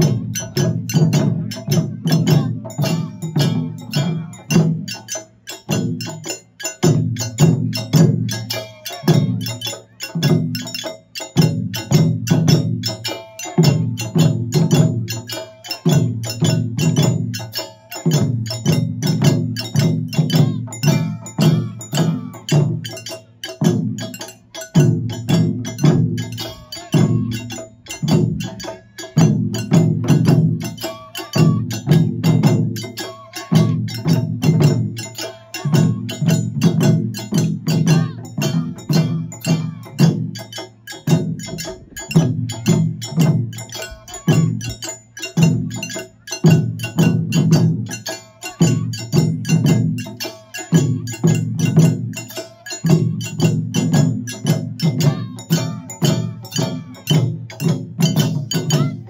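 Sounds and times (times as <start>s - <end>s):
heavy drum beats: 0.0s - 59.0s.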